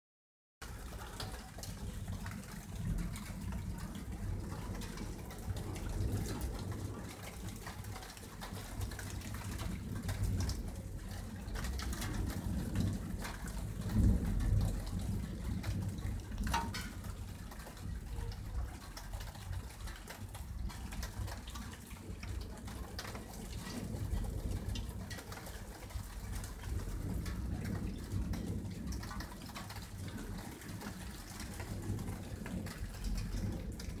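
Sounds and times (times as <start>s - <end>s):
thunder rumbling: 0.7s - 34.0s.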